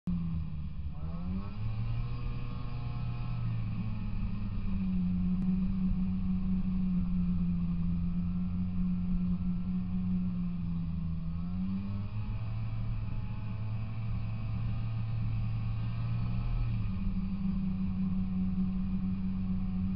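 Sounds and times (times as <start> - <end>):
snowmobile engine running: 0.1 - 19.9.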